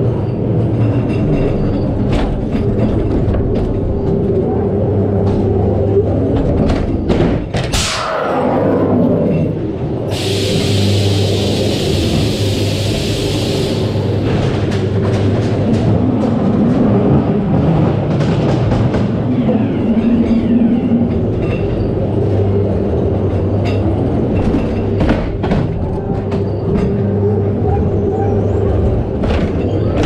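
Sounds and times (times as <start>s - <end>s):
wheels clacking on track: 0.0s - 7.8s, 10.1s - 30.0s
ride car rumbling on track: 0.0s - 8.0s, 8.6s - 30.0s.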